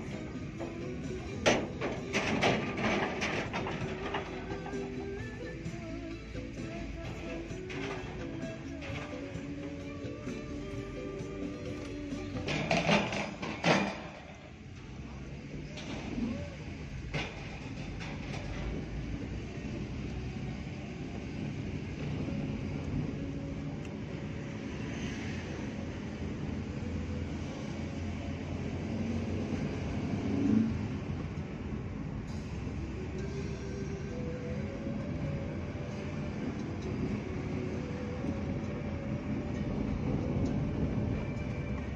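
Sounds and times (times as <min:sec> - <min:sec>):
vehicle engine and road noise: 0:00.0 - 0:41.9.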